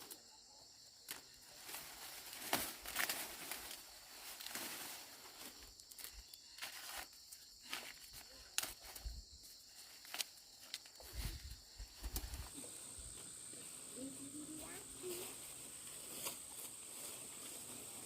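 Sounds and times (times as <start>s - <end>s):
insects hissing: 0.0s - 18.0s
rustling in a field: 0.0s - 18.0s
footsteps in a field: 1.2s - 18.0s.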